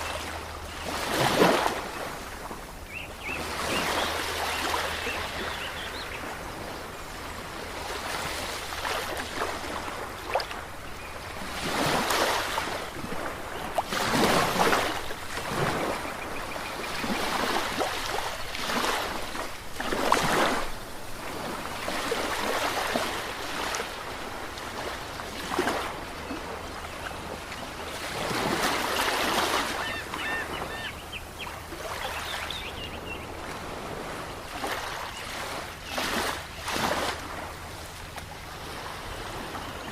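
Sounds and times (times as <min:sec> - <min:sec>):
waves breaking and washing: 0:00.0 - 0:39.9.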